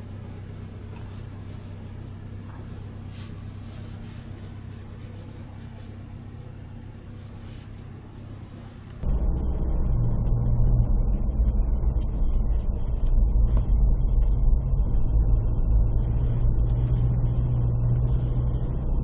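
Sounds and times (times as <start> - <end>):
muffled low rumble: 0.0 - 19.0
vehicle engine humming: 0.0 - 19.0.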